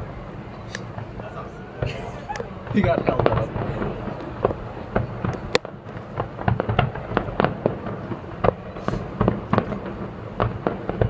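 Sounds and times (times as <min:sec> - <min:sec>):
distant fireworks bursts and pops: 0:01.8 - 0:11.0.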